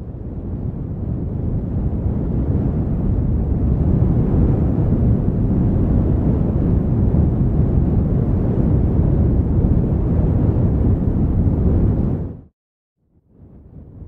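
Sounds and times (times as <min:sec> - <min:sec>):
wind buffeting microphone: 0:00.0 - 0:12.5, 0:13.3 - 0:14.0.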